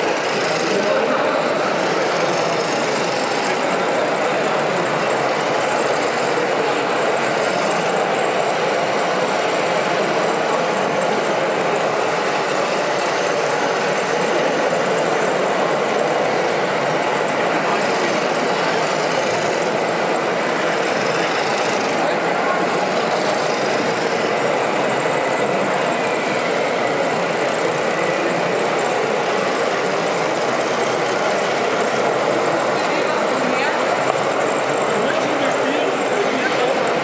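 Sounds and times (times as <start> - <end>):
busy hall noise: 0.0 - 37.0.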